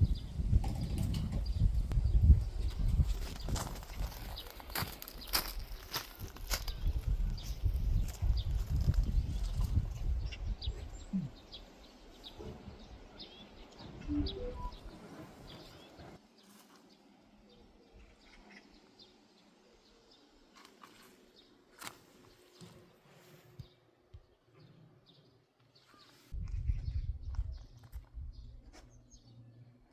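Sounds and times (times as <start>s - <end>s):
small birds chirping: 0.0s - 29.8s.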